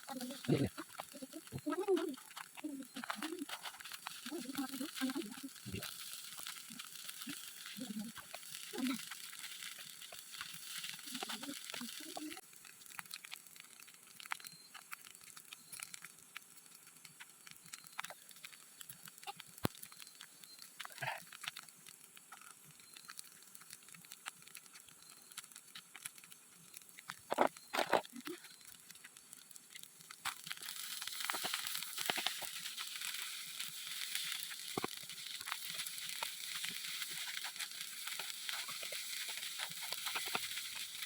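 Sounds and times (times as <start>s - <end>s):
food sizzling in hot oil: 0.0s - 41.0s.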